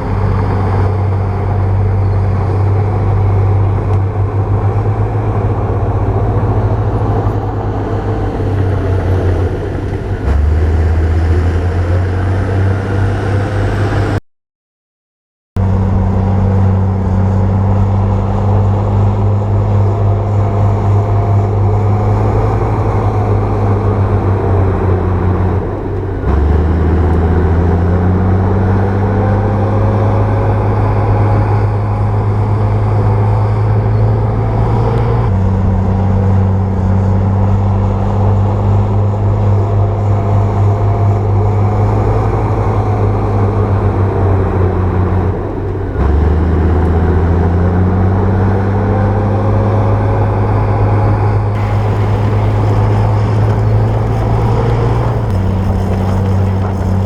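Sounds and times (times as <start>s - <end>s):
bulldozer diesel engine under load: 0.0s - 14.2s, 15.6s - 57.0s.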